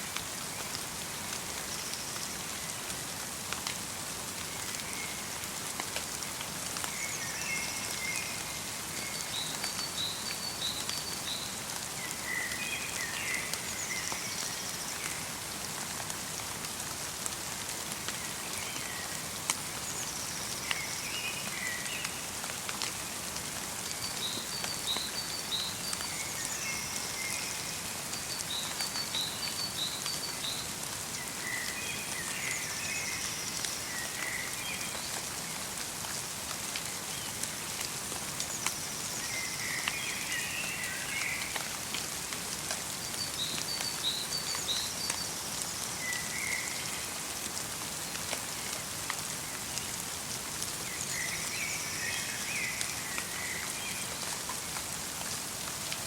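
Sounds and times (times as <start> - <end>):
light rain and snow falling: 0.0 - 56.0.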